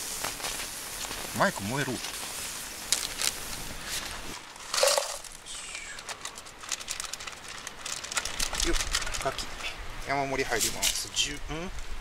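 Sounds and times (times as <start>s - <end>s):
rustle or scrape: 0.0s - 11.9s
charcoal fire crackling: 0.0s - 12.0s.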